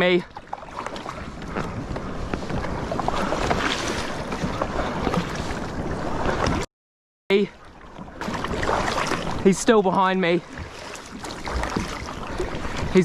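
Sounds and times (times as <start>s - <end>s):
water splashing against kayak: 0.0s - 6.7s, 7.5s - 13.0s.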